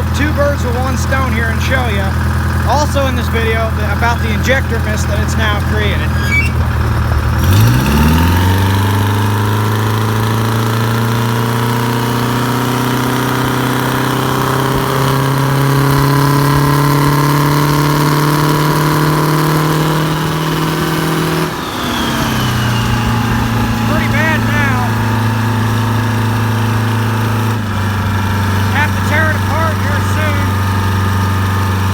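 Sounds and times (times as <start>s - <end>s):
truck engine revving: 0.0s - 31.9s.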